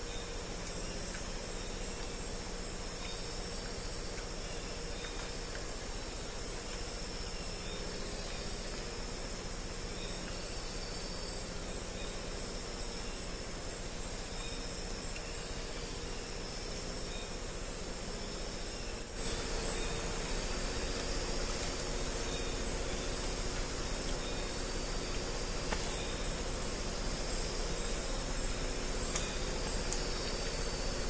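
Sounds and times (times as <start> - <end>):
insects hissing at night: 0.0 - 31.0.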